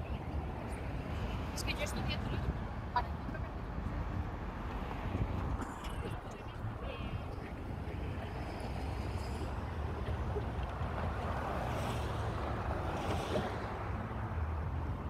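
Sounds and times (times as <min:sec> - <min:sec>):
cars passing: 0:00.0 - 0:15.0
wind rumbling on microphone: 0:00.0 - 0:15.0.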